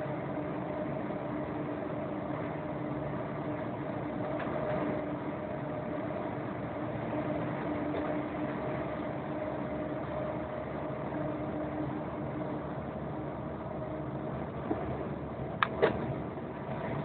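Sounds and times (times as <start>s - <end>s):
engine hum inside vehicle cab: 0.0s - 17.0s
tyre and road noise: 0.0s - 17.0s.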